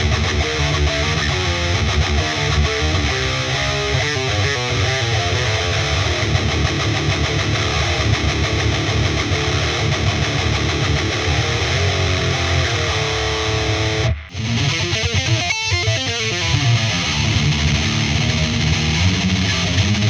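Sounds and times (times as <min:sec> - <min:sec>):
distorted electric guitar riff: 0:00.0 - 0:20.0.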